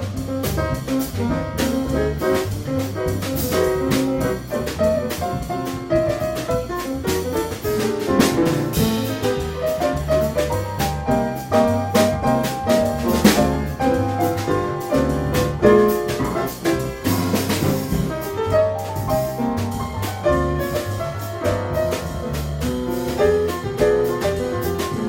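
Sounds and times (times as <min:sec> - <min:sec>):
bass: 0:00.0 - 0:25.0
drum kit cymbals: 0:00.0 - 0:25.0
jazz piano: 0:00.0 - 0:25.0.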